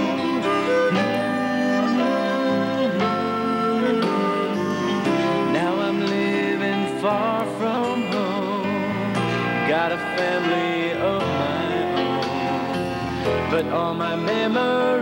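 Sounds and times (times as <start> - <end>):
country song: 0.0 - 15.0
guitar: 0.0 - 15.0.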